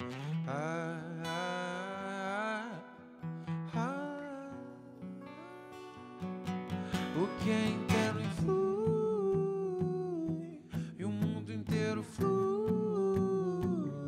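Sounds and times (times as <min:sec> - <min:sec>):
man singing: 0:00.0 - 0:05.8, 0:06.8 - 0:14.0
acoustic guitars playing: 0:00.0 - 0:14.0.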